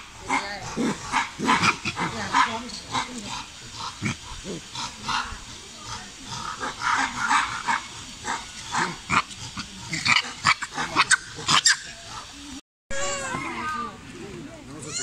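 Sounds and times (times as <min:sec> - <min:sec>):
monkeys calling and screeching: 0:00.0 - 0:14.0, 0:14.8 - 0:15.0.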